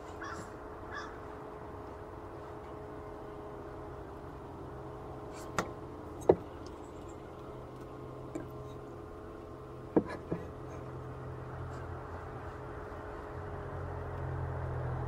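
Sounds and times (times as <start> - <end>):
bee colony humming: 0.0 - 15.0.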